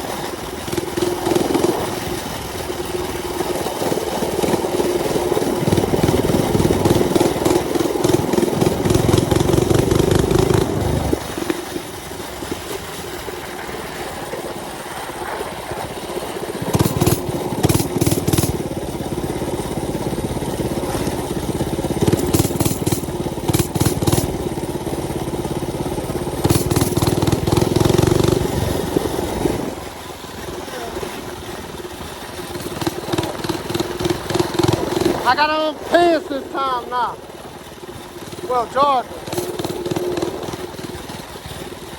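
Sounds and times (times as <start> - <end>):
small engine revving: 0.0 - 37.2, 37.9 - 41.9.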